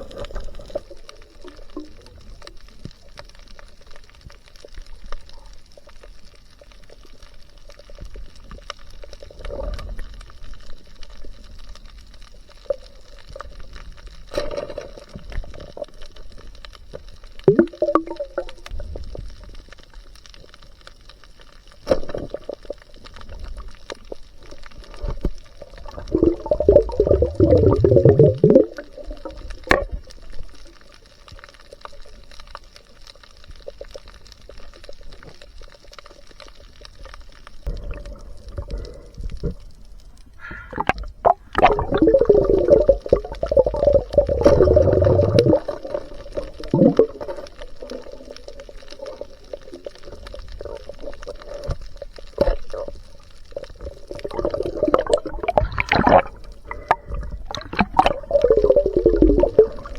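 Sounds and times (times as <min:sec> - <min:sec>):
water churning and bubbling: 0:00.0 - 0:59.9.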